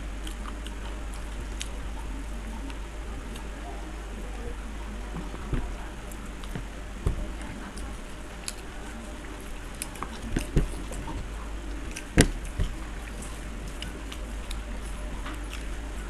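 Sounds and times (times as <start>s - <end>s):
steady low hum: 0.0s - 16.0s
chewing mouth clicks and smacks: 0.2s - 3.6s, 5.1s - 16.0s.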